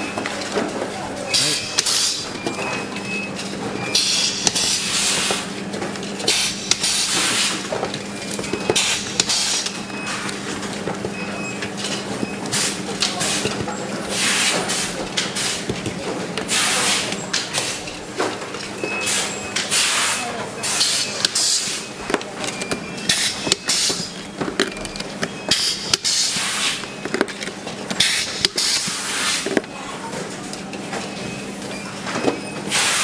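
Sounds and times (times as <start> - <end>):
steady machine hum: 0.0 - 32.8.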